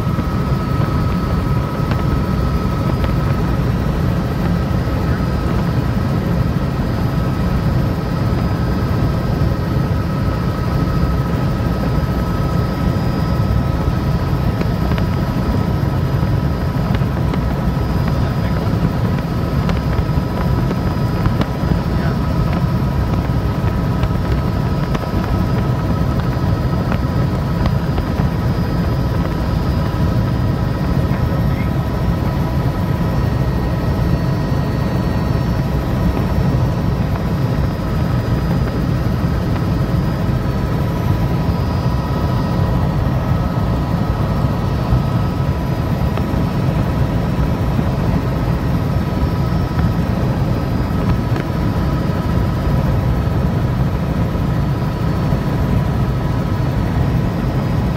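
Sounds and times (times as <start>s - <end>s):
helicopter rotor and engine drone: 0.0s - 57.9s.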